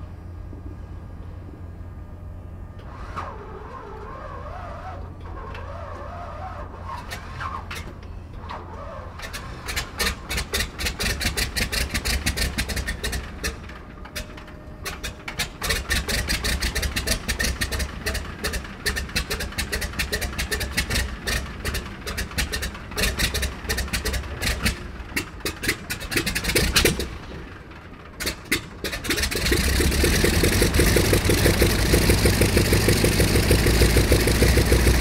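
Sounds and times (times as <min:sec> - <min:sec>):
radial aircraft engine starting: 0:02.6 - 0:35.0.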